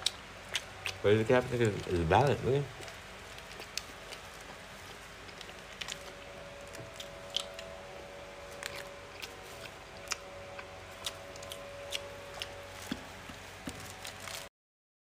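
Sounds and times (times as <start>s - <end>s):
faint steady hum: 0.0s - 14.5s
people eating from plastic bag: 0.0s - 14.5s.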